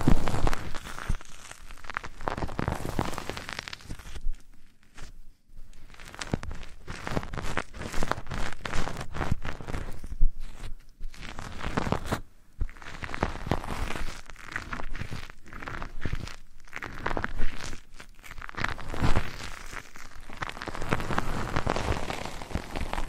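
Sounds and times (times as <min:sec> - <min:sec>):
scratching and rustling on microphone: 0:00.0 - 0:23.0.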